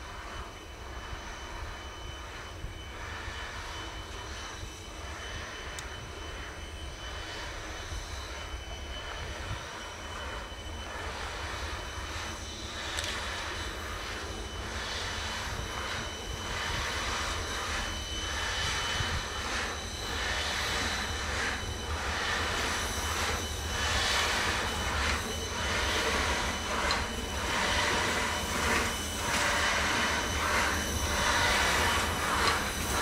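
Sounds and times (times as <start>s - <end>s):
train hiss: 0.0s - 33.0s
train rumble: 0.0s - 33.0s.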